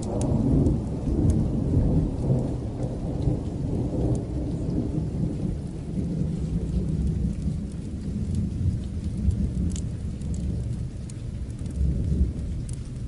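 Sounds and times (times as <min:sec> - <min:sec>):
distant thunder rumble: 0:00.0 - 0:13.0
steady rain: 0:00.0 - 0:13.0.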